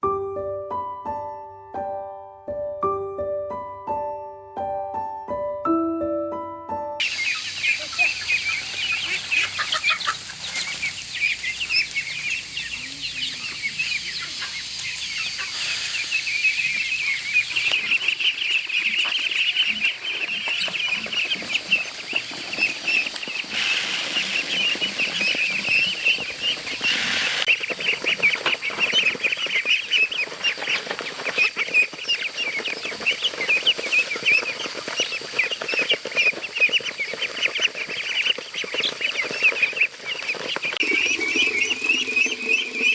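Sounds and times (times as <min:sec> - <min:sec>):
chicks and ducklings peeping: 0:07.0 - 0:42.9.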